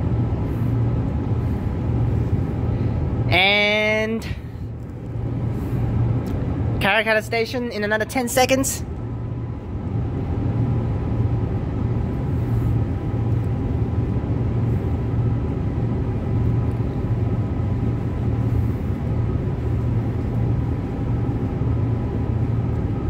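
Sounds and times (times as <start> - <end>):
faint steady whine: 0.0 - 23.0
train low rumble: 0.0 - 23.0.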